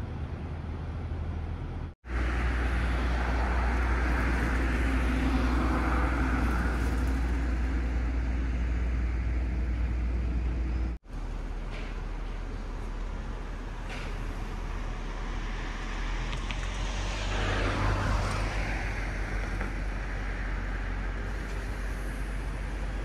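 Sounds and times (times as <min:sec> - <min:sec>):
low engine-like hum: 0:00.0 - 0:23.0.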